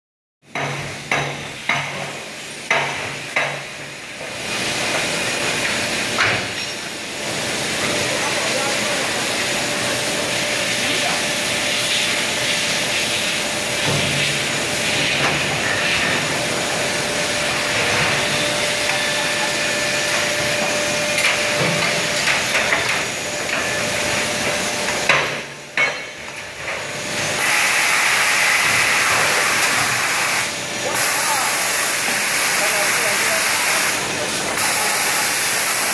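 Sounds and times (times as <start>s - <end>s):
machine hiss and hum: 0.6s - 35.9s.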